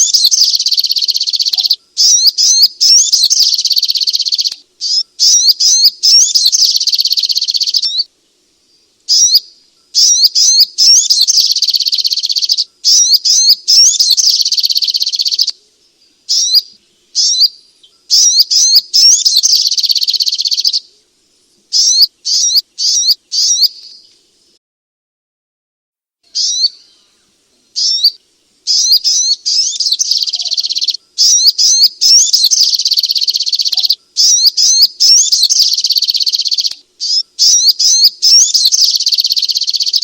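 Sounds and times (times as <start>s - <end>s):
bird twittering song: 0.0s - 24.2s, 26.3s - 40.0s.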